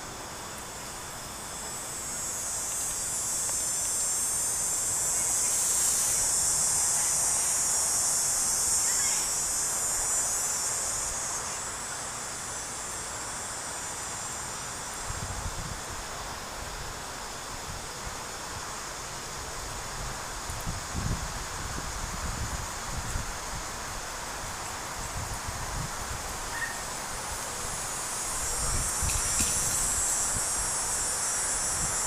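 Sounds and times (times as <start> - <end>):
insects buzzing: 0.0 - 32.0.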